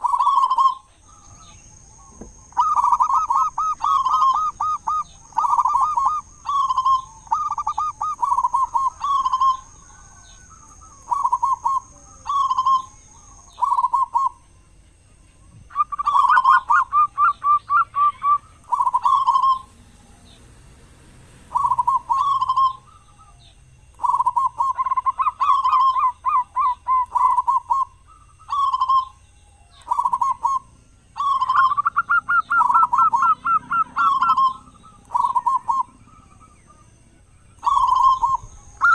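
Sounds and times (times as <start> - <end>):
dove cooing: 0.0 - 20.5, 21.4 - 38.9.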